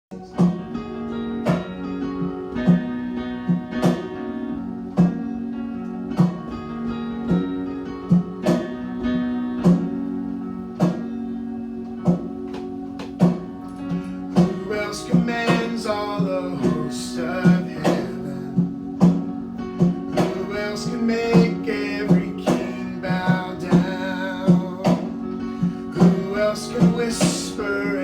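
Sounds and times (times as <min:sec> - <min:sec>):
acoustic guitar strumming chords: 0:00.1 - 0:28.0.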